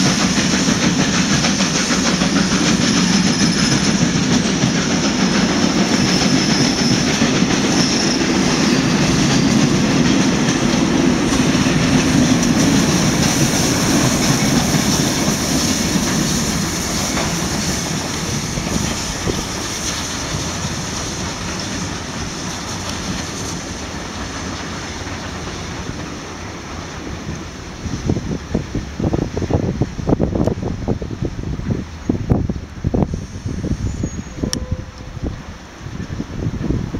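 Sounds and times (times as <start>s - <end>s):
train wheels clickety-clack: 0.0s - 36.9s.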